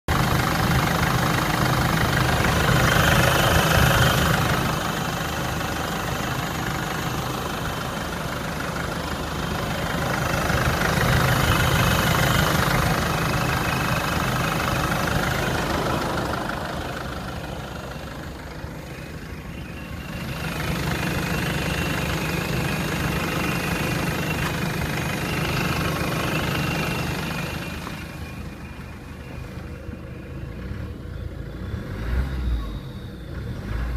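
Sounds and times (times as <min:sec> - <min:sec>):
diesel engine revving: 0:00.1 - 0:33.9
high turbo whine: 0:00.1 - 0:33.9.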